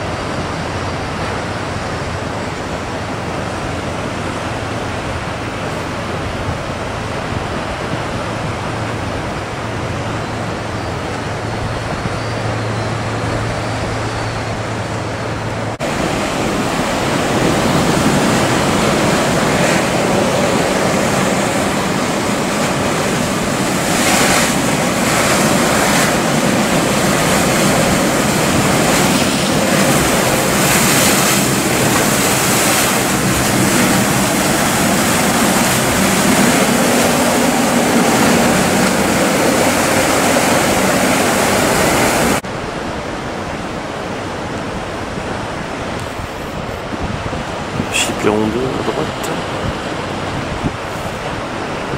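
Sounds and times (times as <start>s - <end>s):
boat engine hum: 0.0s - 51.9s
waves rushing: 0.0s - 51.9s
wind on microphone: 0.0s - 51.9s.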